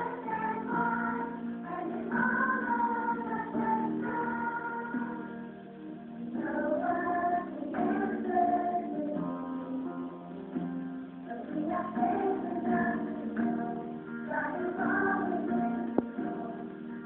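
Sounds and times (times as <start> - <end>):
song with instrumental accompaniment: 0.0 - 17.0.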